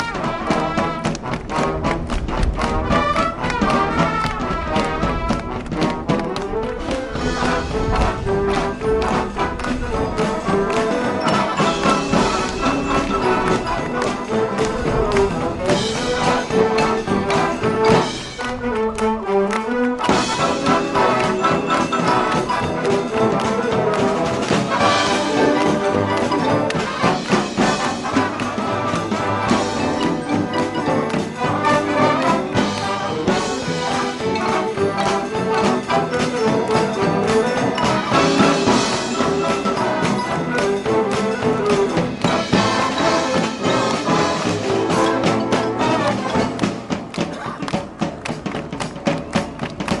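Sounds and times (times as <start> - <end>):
marching band playing: 0.0 - 50.0.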